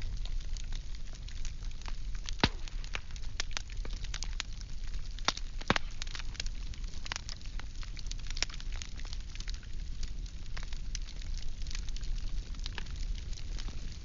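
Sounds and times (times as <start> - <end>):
firewood burning and crackling: 0.0 - 14.0.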